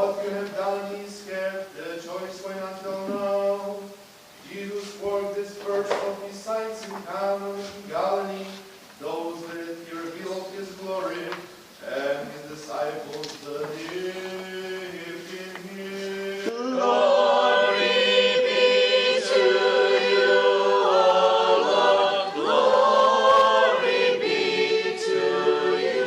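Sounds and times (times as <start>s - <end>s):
church choir singing in harmony: 0.0s - 26.0s.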